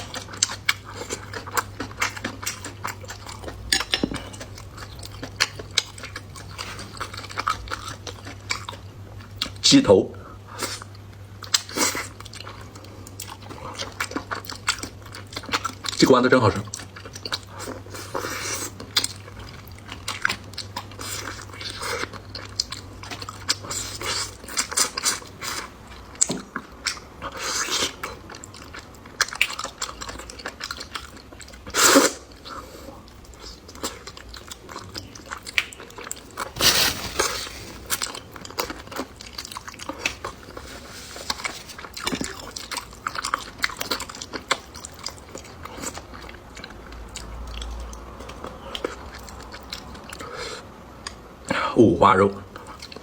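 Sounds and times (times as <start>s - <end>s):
person chewing crunchy food: 0.0s - 9.6s, 10.3s - 51.2s, 52.5s - 53.0s.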